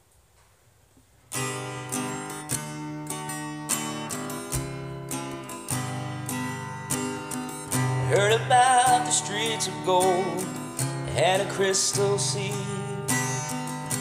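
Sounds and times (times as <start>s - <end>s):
acoustic guitar strumming chords: 1.3s - 14.0s.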